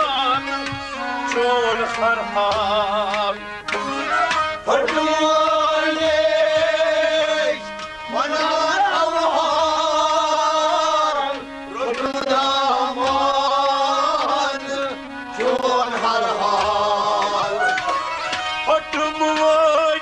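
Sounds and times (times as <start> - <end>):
harmonium: 0.0 - 20.0
men singing long phrases: 1.2 - 17.8.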